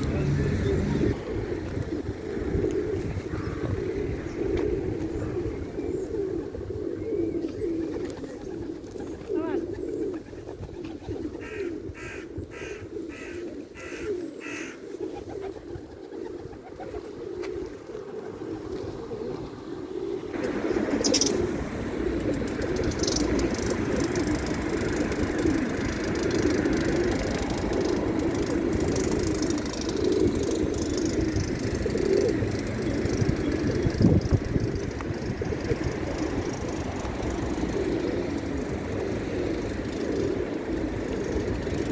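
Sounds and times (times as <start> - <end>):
pigeons cooing: 0.0 - 41.9
steady background noise: 0.0 - 41.9.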